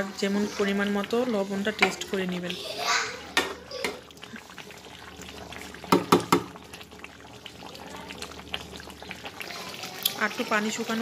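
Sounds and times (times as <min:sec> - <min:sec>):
curry bubbling and popping: 0:00.0 - 0:11.0.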